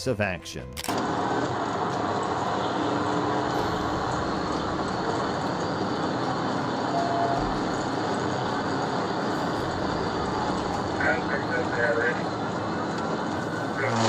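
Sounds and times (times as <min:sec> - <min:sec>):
vehicle road and engine noise: 0:00.0 - 0:14.0.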